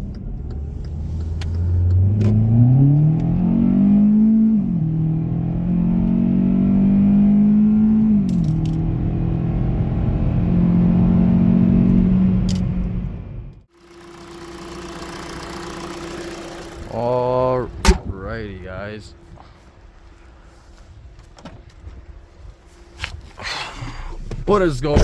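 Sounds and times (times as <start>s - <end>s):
car engine accelerating: 0.0s - 20.7s, 22.0s - 25.0s.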